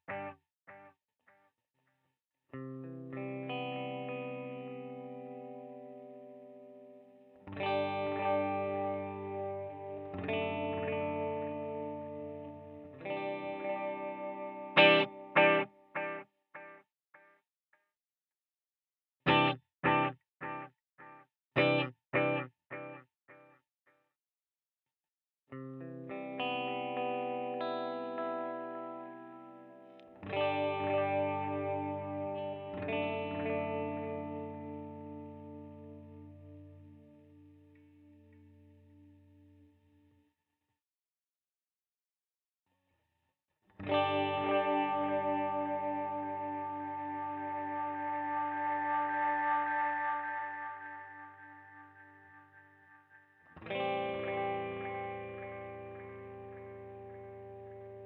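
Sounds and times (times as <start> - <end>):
electric guitar chords with delay: 0.0 - 0.9, 2.6 - 17.3, 19.3 - 23.5, 25.6 - 39.8, 43.8 - 58.0.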